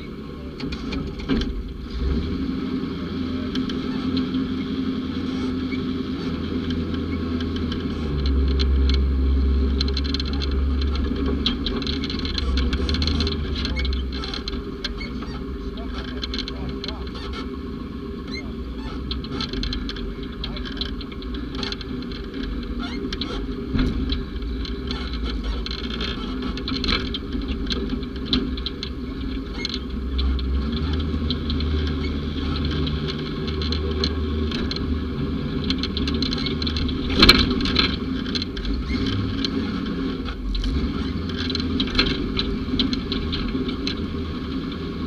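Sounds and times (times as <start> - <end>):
rattles and knocks: 0.0 - 2.3, 3.3 - 45.0
utility vehicle engine running: 0.0 - 45.0.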